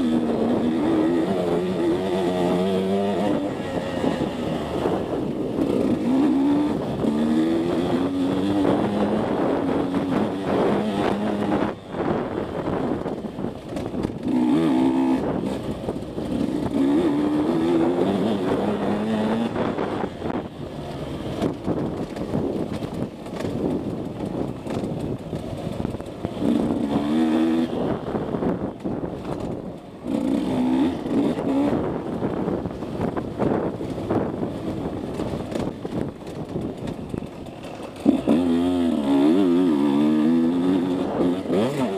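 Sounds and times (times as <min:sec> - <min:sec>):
dirt bike engine revving: 0:00.0 - 0:22.5, 0:25.5 - 0:28.8, 0:30.0 - 0:36.0, 0:37.2 - 0:41.9.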